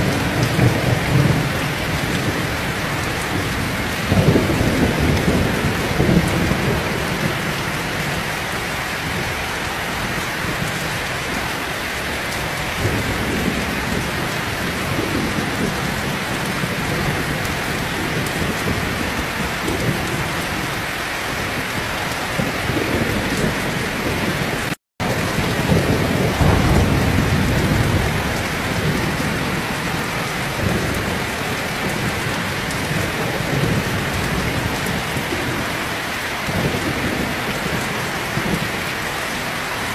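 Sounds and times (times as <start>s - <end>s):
low thunder rumbling: 0.0s - 35.8s, 36.4s - 39.9s
heavy rain pouring: 0.0s - 39.9s.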